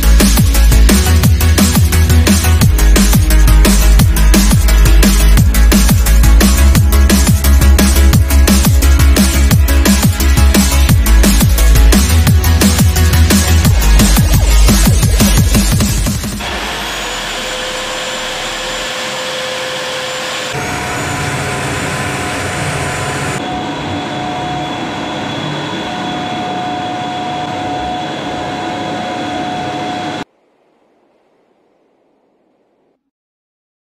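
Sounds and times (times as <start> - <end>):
vacuum cleaner running: 0.1 - 30.3.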